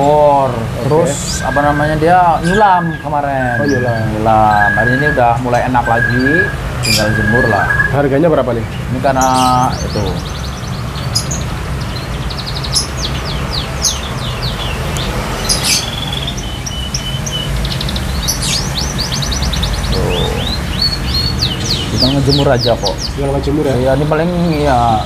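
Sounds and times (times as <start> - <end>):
canary chirping and trilling: 0.0 - 25.0.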